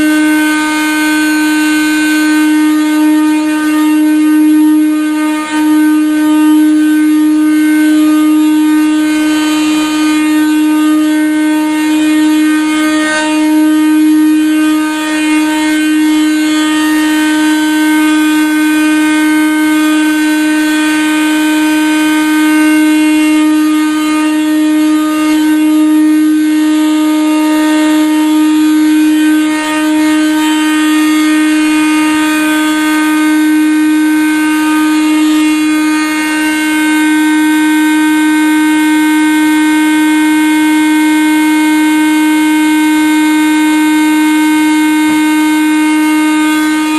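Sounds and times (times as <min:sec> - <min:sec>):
plumbing whistling tone: 0:00.0 - 0:46.9.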